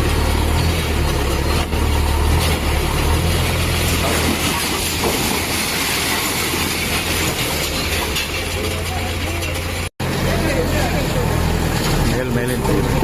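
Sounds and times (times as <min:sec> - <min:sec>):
heavy machinery engine drone: 0:00.0 - 0:13.0
loud dense noise: 0:00.0 - 0:13.0.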